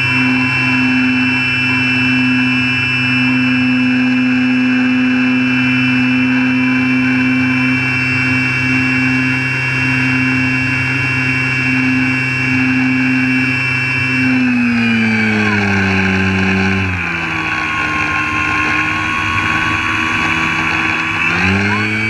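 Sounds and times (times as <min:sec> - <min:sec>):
model airplane motor droning: 0:00.0 - 0:22.0.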